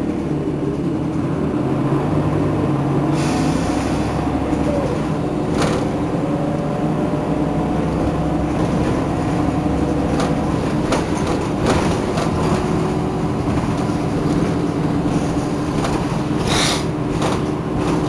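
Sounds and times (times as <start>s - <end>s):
bus diesel engine idling: 0.0s - 18.0s.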